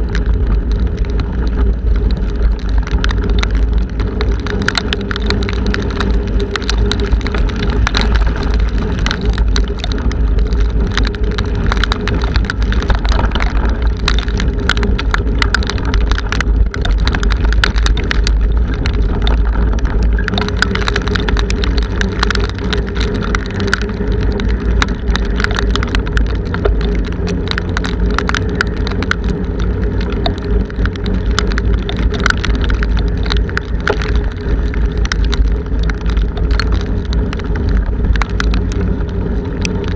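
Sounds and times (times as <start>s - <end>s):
bicycle hum: 0.0s - 39.9s
rain ticking on camera: 0.0s - 39.9s
wind buffeting microphone: 0.0s - 39.9s.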